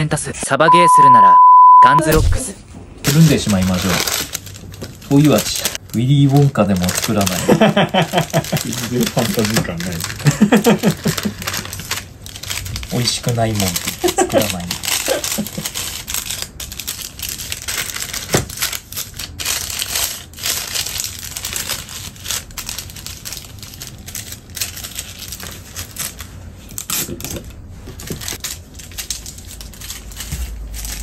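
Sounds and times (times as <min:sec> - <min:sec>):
wrapping material crinkling: 0:03.0 - 0:31.0.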